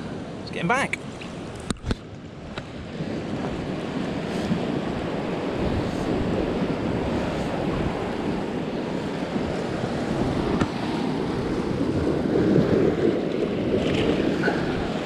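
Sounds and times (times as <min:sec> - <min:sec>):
surf washing against rocks: 0:00.0 - 0:15.0
wind buffeting microphone: 0:01.1 - 0:15.0.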